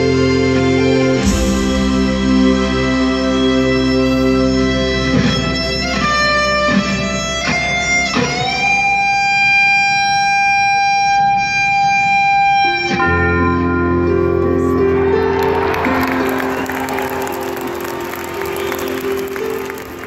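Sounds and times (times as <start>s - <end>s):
electric guitar lead: 0.0s - 20.0s
live rock band: 0.0s - 20.0s.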